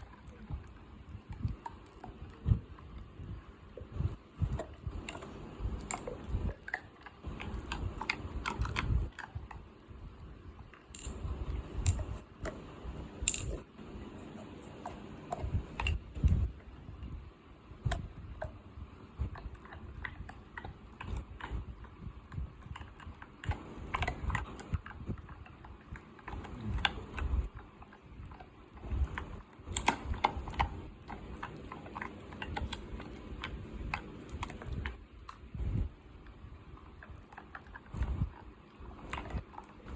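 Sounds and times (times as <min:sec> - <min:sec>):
dog chewing: 0:00.0 - 0:39.9.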